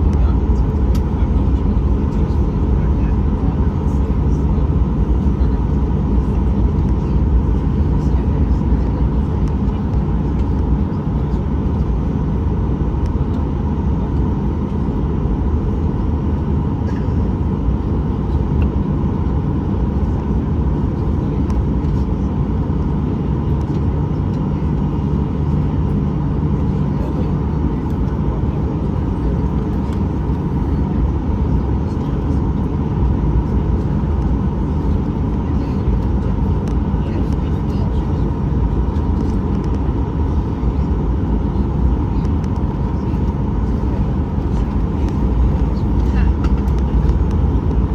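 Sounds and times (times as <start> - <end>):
airplane cabin engine rumble and whine: 0.0 - 47.9.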